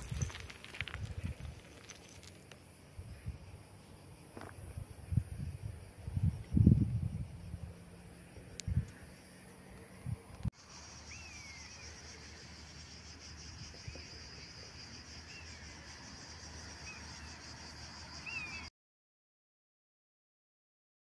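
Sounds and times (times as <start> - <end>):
pulsing insect chirr: 0.0 - 18.7.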